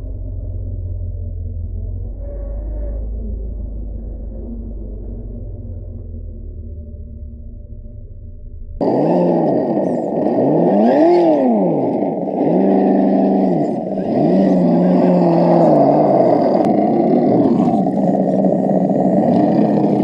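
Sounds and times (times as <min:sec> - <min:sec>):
simulated truck engine revving: 0:00.0 - 0:20.0.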